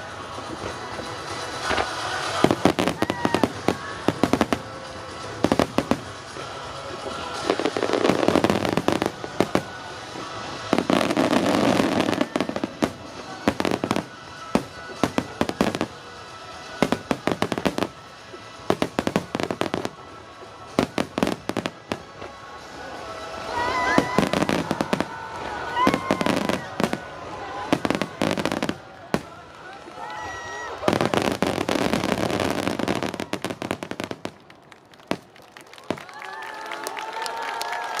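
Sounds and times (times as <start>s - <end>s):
firework crackle: 0.0s - 38.0s
firework bangs: 0.2s - 36.2s.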